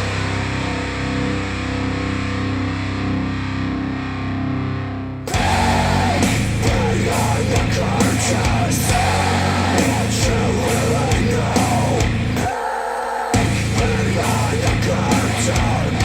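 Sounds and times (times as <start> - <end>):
loud rock music through speakers: 0.0 - 16.0.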